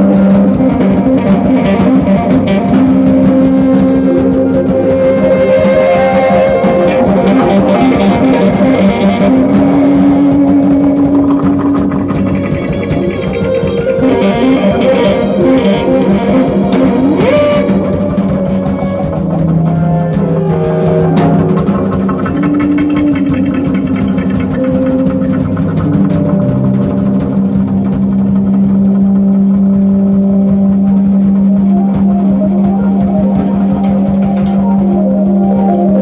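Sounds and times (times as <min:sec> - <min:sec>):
drum kit: 0:00.0 - 0:36.0
electric guitar: 0:00.0 - 0:36.0.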